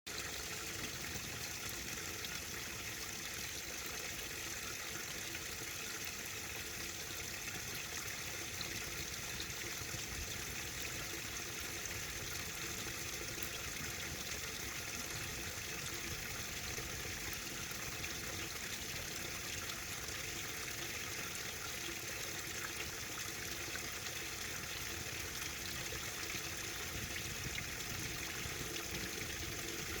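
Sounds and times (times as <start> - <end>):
water trickling: 0.1 - 30.0.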